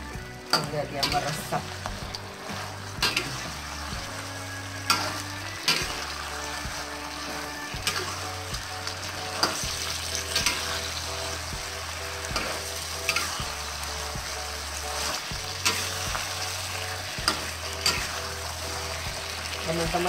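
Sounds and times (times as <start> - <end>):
shrimp sizzling in a wok: 0.0 - 20.0
spatula scraping a pan: 0.5 - 19.7.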